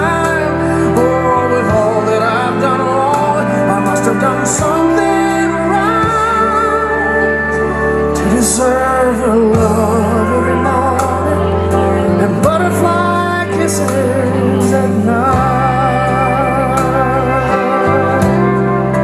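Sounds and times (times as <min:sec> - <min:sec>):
slow music with sliding melody: 0:00.0 - 0:19.0.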